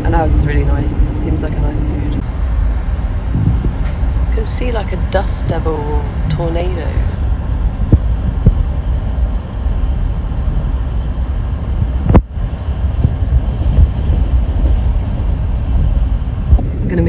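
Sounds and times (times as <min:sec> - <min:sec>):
train rumble from inside carriage: 0:00.0 - 0:17.0.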